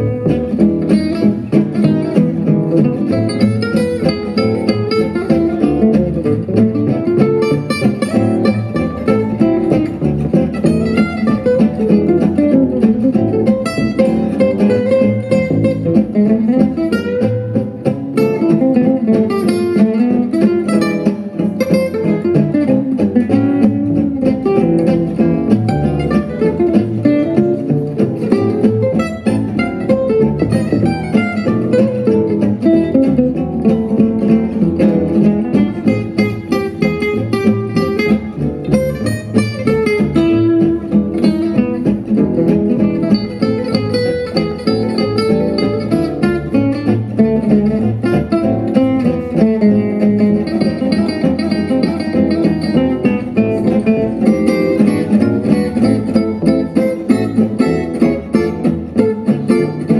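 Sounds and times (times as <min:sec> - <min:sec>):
chugging rhythm guitar: 0:00.0 - 0:59.9
lead guitar runs: 0:00.0 - 0:59.9
plucked walking bass: 0:00.0 - 0:59.9.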